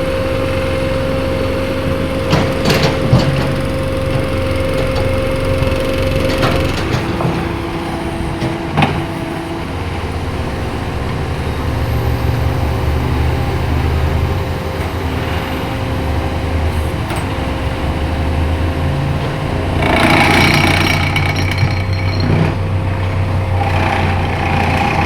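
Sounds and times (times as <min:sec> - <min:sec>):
vehicle engines running: 0:00.0 - 0:25.0.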